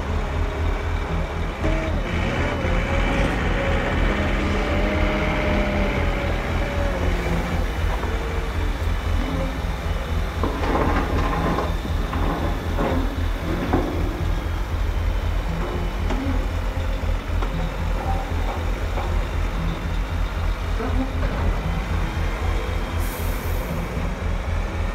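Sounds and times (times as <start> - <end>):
throbbing model engine: 0.0 - 24.9.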